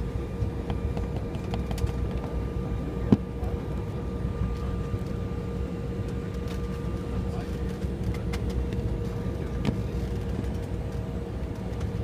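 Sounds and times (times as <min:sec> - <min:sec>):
jet cabin rumble: 0:00.0 - 0:12.0.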